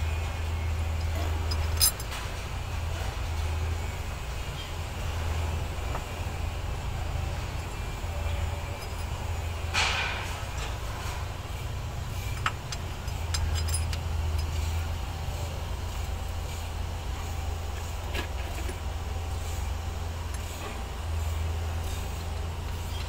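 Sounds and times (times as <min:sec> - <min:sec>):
low machinery hum: 0:00.0 - 0:23.0.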